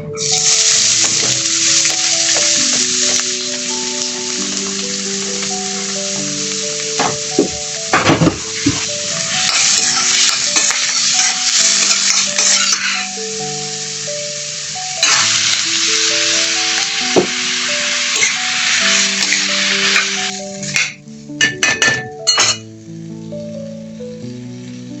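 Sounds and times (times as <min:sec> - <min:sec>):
food sizzling in a pan: 0:00.0 - 0:25.0
soft background music: 0:00.0 - 0:25.0.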